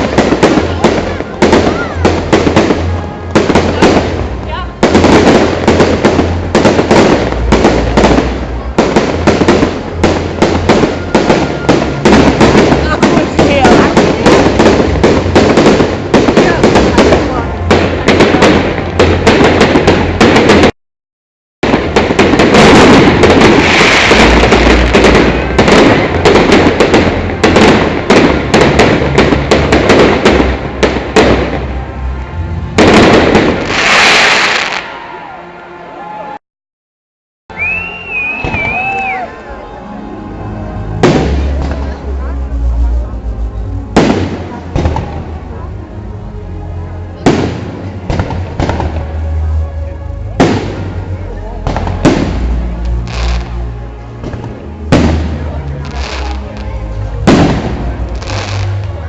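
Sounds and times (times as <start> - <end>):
firework bangs: 0.0 - 20.7, 21.6 - 35.0, 37.6 - 39.3, 40.9 - 42.2, 43.8 - 45.4, 47.2 - 49.6, 50.2 - 59.0
firework crackling: 0.0 - 20.7, 21.6 - 35.1, 37.6 - 39.6, 43.8 - 45.8, 47.1 - 59.0.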